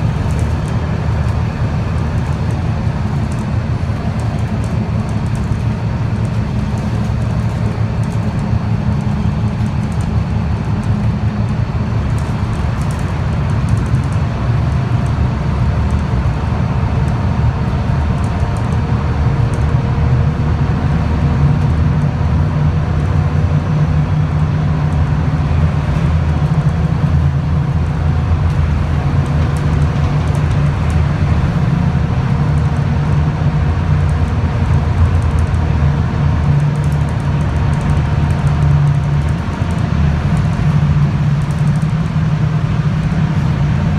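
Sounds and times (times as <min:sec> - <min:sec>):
bus engine rumble from inside: 0:00.0 - 0:43.9.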